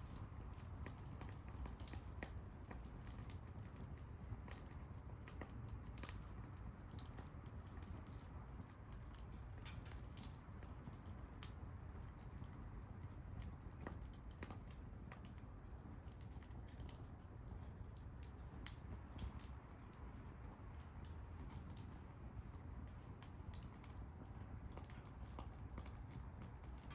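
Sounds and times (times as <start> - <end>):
bonfire crackling: 0.0 - 26.9.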